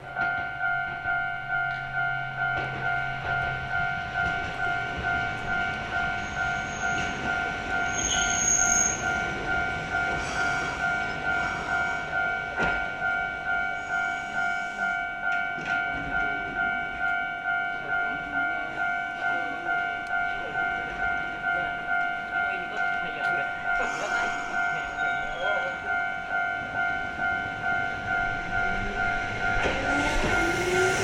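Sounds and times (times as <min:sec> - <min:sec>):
level-crossing bell ringing: 0:00.0 - 0:31.0.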